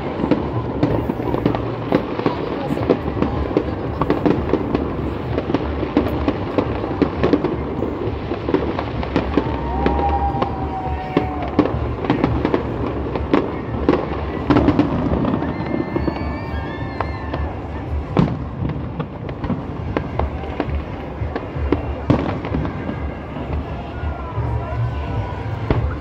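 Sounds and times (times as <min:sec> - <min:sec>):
fireworks popping and crackling: 0:00.0 - 0:26.0.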